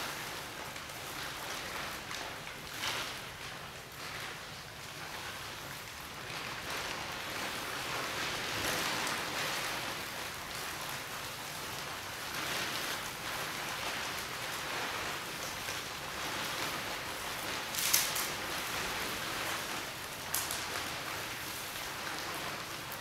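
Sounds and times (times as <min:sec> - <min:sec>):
plastic sheeting rustling: 0:00.0 - 0:23.0
sharp plastic crackle: 0:00.0 - 0:23.0.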